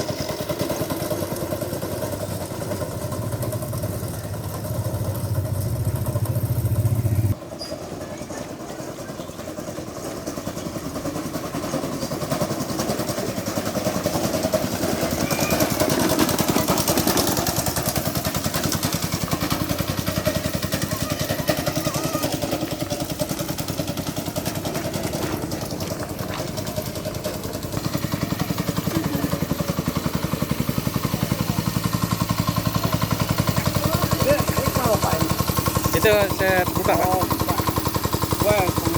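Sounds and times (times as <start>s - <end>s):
motorcycle engine revving: 0.0s - 7.6s, 9.5s - 38.9s.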